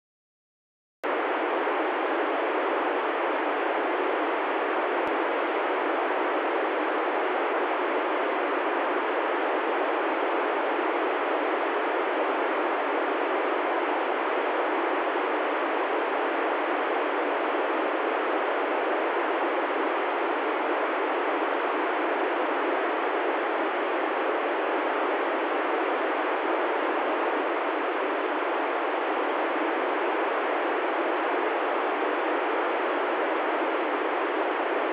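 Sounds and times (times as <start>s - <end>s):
radio static hiss: 1.1s - 34.9s.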